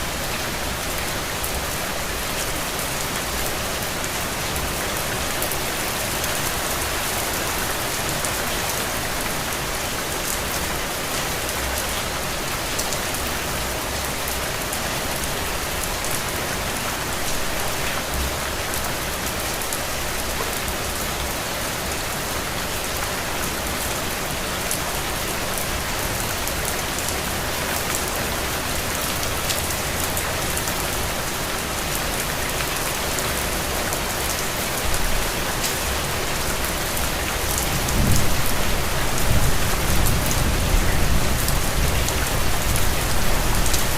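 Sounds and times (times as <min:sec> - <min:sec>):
raindrops ticking on surfaces: 0:00.1 - 0:43.9.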